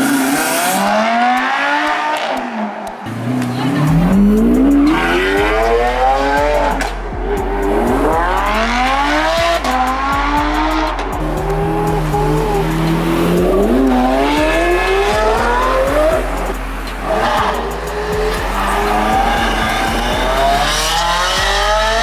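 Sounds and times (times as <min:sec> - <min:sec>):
car engines accelerating hard: 0:00.0 - 0:22.0
sharp exhaust cracks: 0:00.0 - 0:22.0.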